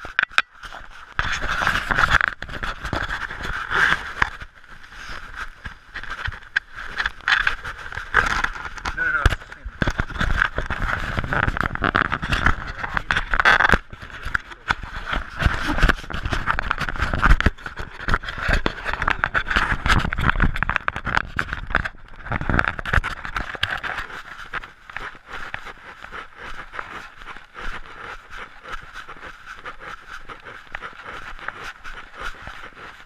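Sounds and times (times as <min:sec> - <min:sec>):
fingers scraping on camera housing: 0:00.0 - 0:33.0.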